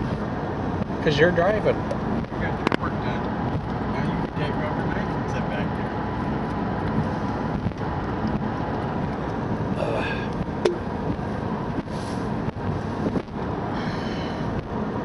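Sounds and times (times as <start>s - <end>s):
vehicle road and engine noise: 0.0s - 15.0s.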